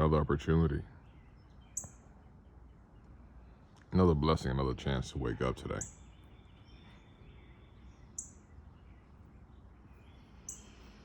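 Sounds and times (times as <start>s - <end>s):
bird chirping: 0.0s - 3.9s, 5.4s - 11.0s
faint outdoor background noise: 0.0s - 11.0s.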